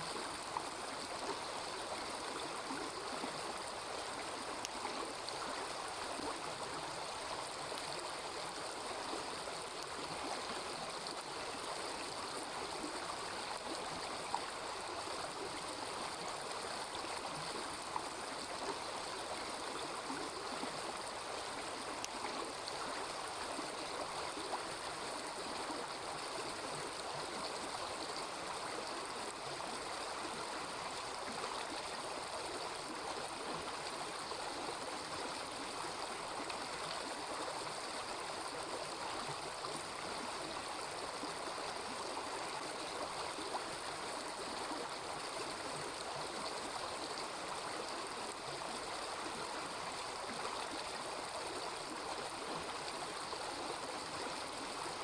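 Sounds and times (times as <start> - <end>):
small river babbling: 0.0 - 55.0.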